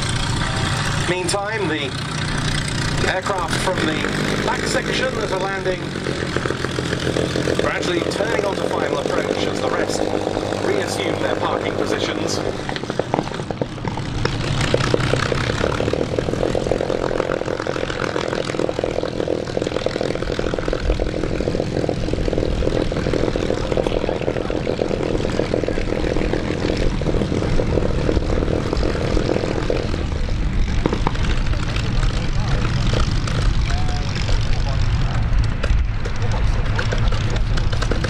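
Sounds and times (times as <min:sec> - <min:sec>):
propeller aircraft engine idling: 0:00.0 - 0:38.0
propeller droning: 0:00.0 - 0:38.0.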